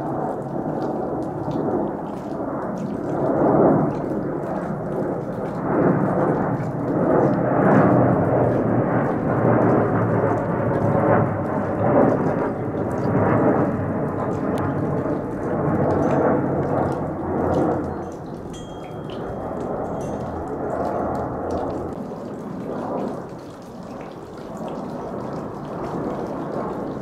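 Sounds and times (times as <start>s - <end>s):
jet passing overhead rumbling: 0.0s - 27.0s.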